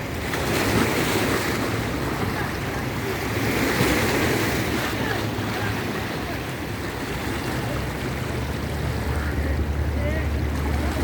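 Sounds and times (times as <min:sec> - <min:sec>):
sea waves breaking: 0:00.0 - 0:11.0.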